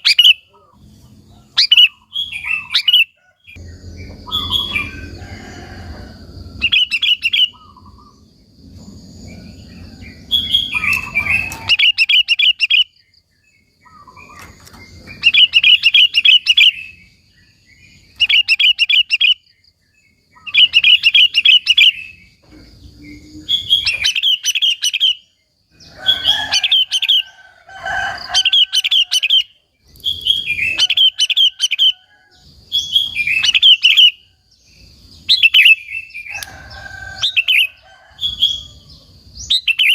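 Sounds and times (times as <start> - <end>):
bulbul singing: 0.0 - 27.4, 28.2 - 39.9.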